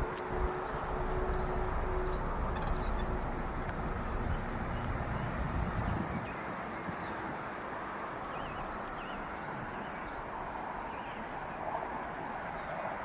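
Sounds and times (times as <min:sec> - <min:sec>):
small songbird chirping: 0:00.0 - 0:12.8
outdoor background noise: 0:00.0 - 0:13.0.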